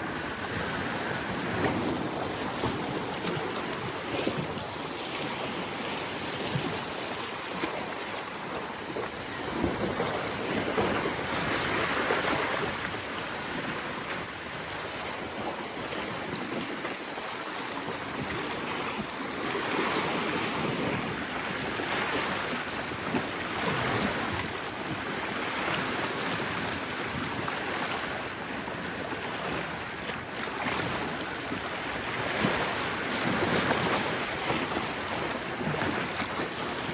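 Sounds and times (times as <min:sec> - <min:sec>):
sea waves washing ashore: 0:00.0 - 0:36.9
wind on microphone: 0:00.0 - 0:36.9.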